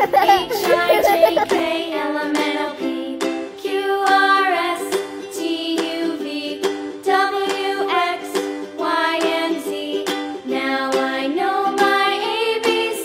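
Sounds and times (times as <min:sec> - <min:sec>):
children's music with plucked strings: 0:00.0 - 0:13.0.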